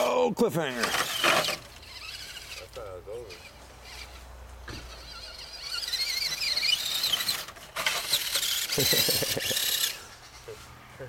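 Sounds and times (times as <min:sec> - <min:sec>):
rc car motor whining: 0:00.7 - 0:10.0.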